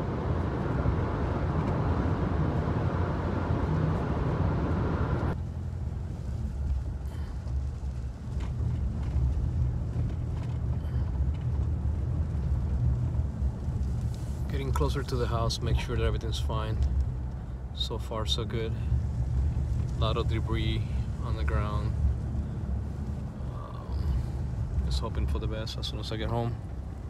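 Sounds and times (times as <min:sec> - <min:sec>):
car cabin road rumble: 0:00.0 - 0:27.0.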